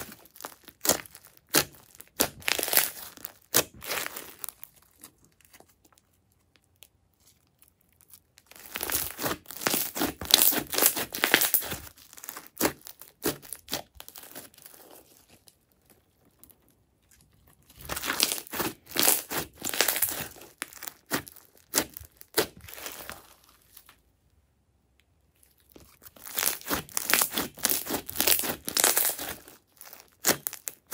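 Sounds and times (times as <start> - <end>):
crunchy slime crackling: 0.0 - 24.2, 25.3 - 30.9.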